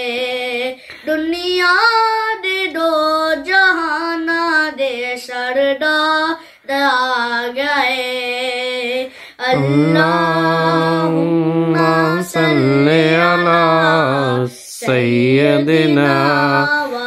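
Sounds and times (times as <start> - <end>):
boy singing solo: 0.0 - 17.0.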